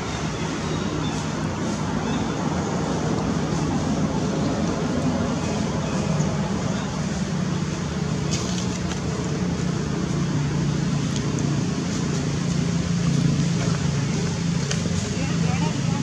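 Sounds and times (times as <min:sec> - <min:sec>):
engine humming: 0:00.0 - 0:16.0
road traffic noise: 0:00.0 - 0:16.0.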